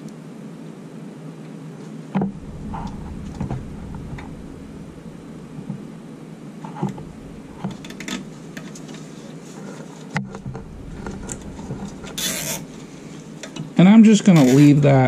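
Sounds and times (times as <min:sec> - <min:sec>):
steady low background: 0:02.2 - 0:15.0.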